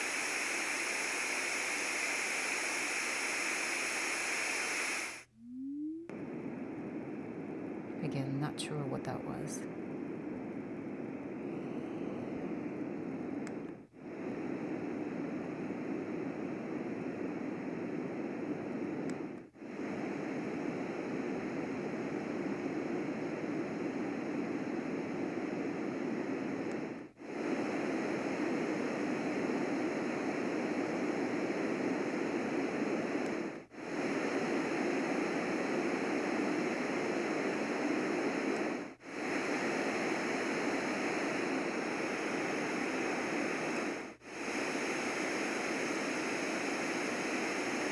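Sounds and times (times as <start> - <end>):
white noise hiss: 0.0 - 5.4, 6.1 - 47.9.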